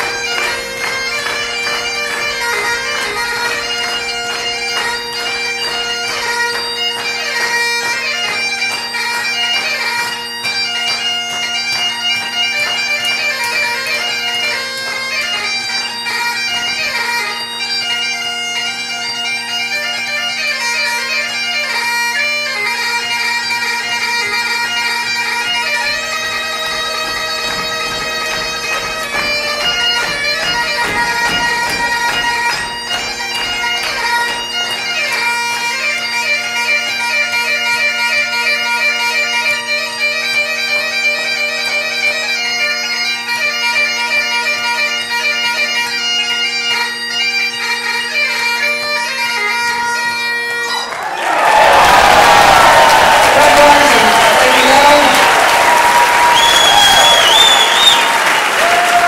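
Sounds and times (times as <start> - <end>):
bagpipe chanter melody: 0.0 - 59.0
bagpipe drones: 0.0 - 59.0.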